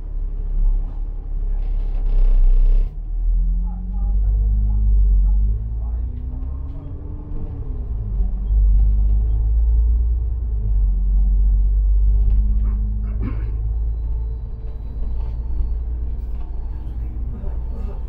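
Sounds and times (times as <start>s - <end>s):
bus engine and road rumble: 0.0s - 18.0s
faint engine hum: 0.0s - 18.0s.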